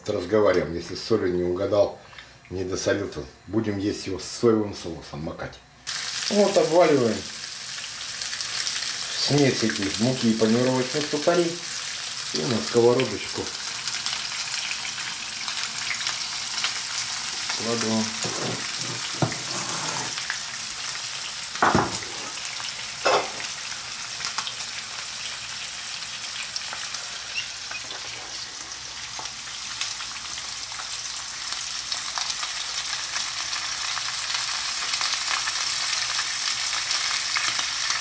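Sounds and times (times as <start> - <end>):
fish sizzling in oil: 5.8 - 38.0.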